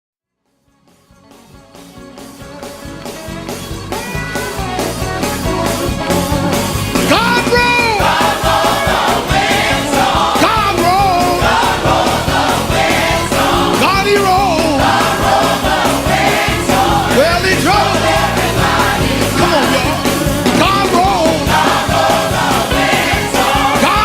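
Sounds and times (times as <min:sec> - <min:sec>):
up-tempo gospel music: 0:00.5 - 0:24.0
voices singing: 0:02.6 - 0:24.0.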